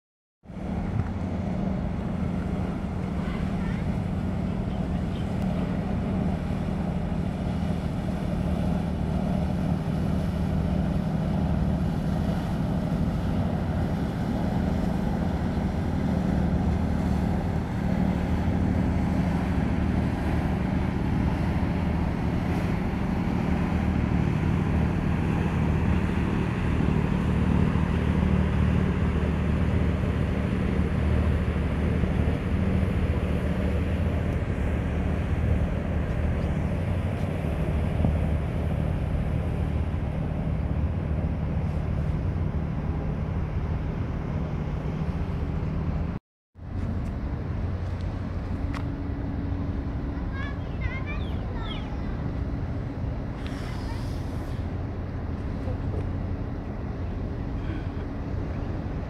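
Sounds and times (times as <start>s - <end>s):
wind: 0.4s - 59.0s
ship engine drone: 0.5s - 59.0s.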